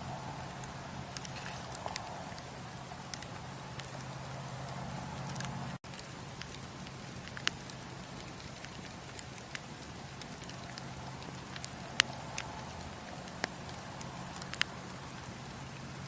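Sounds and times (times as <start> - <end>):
campfire crackling: 0.0 - 16.0
burning wood popping: 0.1 - 16.0.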